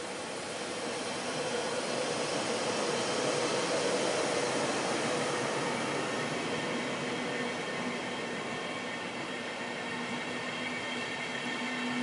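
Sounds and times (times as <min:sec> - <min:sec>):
train coaches rolling by: 0:00.0 - 0:12.0.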